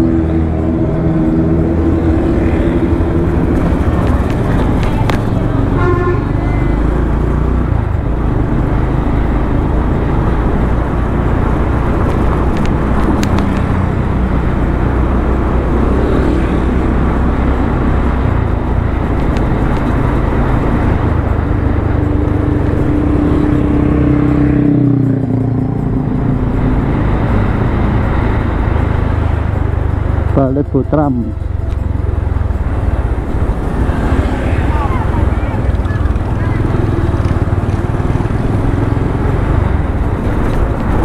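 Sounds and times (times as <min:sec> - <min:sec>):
motorcycle engine: 0:00.0 - 0:41.0
wind and road rush: 0:00.0 - 0:41.0.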